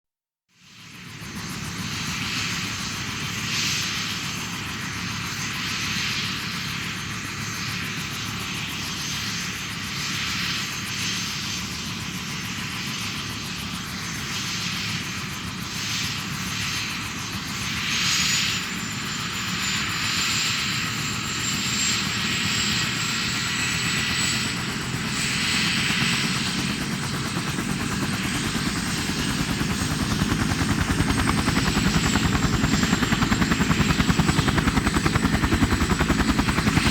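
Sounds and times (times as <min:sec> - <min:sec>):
helicopter turbine whine: 0:00.7 - 0:36.9
helicopter rotor pulsing: 0:00.9 - 0:36.9.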